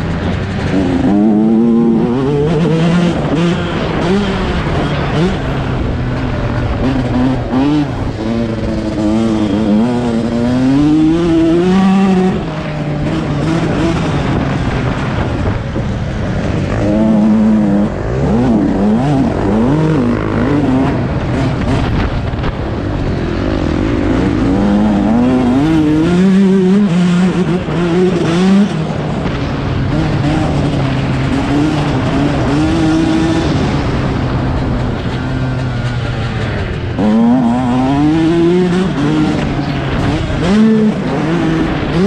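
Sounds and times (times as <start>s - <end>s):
motocross engine revving: 0.0s - 42.0s
wind and riding noise: 0.0s - 42.0s.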